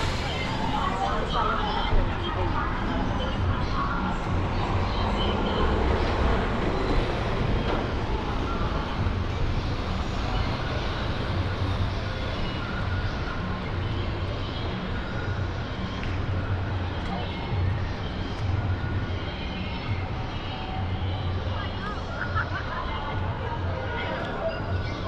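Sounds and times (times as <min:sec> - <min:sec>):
passing vehicles: 0:00.0 - 0:24.8.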